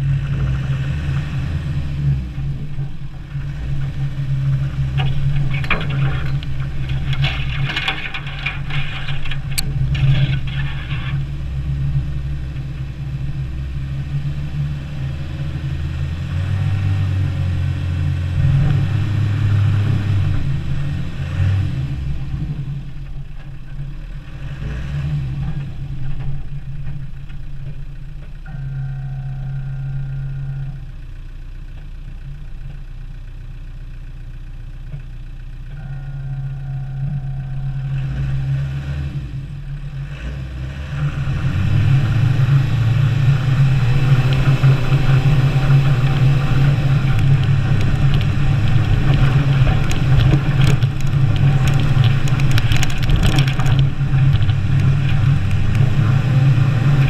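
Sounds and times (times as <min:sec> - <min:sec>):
car engine revving: 0:00.0 - 0:31.2, 0:35.6 - 0:57.0.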